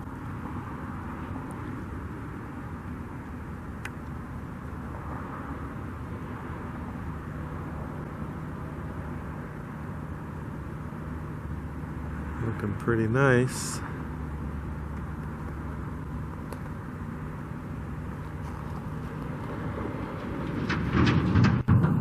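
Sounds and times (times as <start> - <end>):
faint hum: 0.0 - 20.1
distant motor traffic rumble: 0.0 - 22.0.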